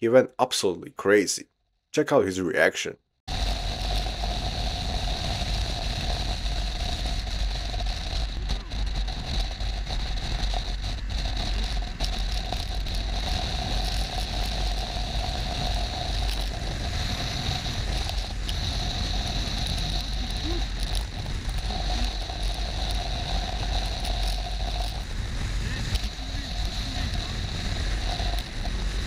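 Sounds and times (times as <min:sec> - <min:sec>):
motorcycle engine: 0:03.3 - 0:29.0
wind buffeting: 0:03.3 - 0:29.0.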